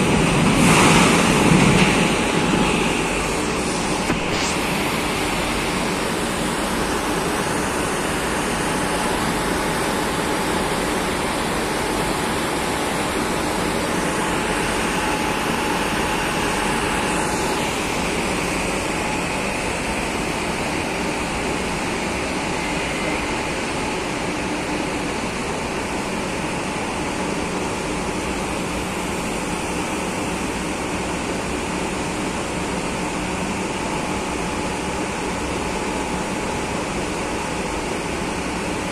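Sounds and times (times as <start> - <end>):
train running equipment noise: 0.0 - 38.9.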